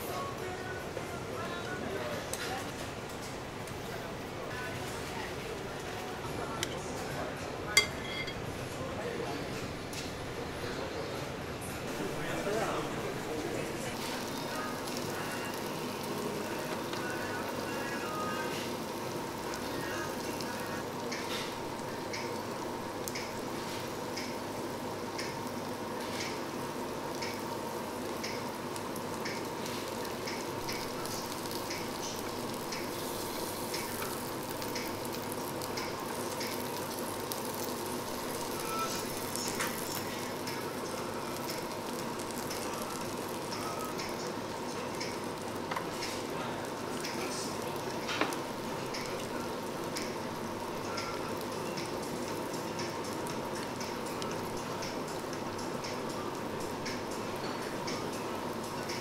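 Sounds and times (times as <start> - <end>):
food sizzling on grill: 0.0 - 11.0, 11.6 - 59.0.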